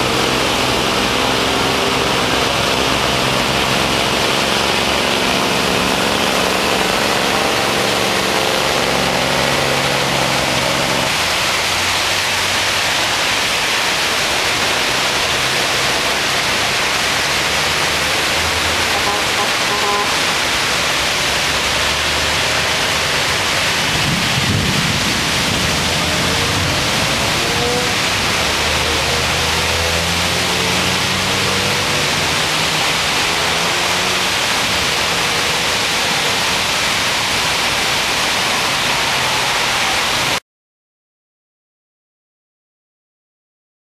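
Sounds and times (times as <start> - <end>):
heavy rain hissing: 0.0 - 40.4
traffic engine hum: 0.0 - 40.4.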